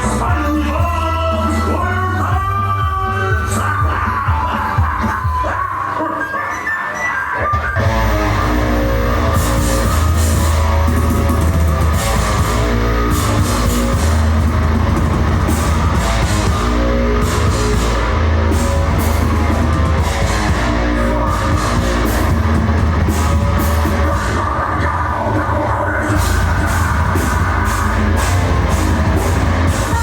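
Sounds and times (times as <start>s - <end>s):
heavy metal band playing: 0.0s - 30.0s.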